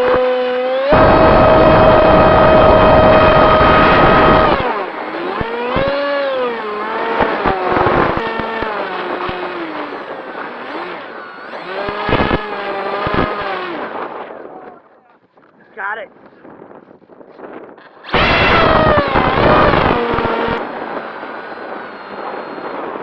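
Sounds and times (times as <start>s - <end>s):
model aircraft motor whining: 0.0s - 14.3s, 17.6s - 23.0s.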